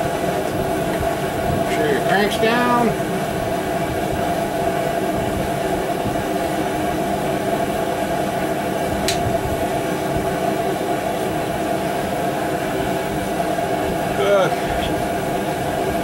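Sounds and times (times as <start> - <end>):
mechanical drone with hum: 0.0 - 16.0.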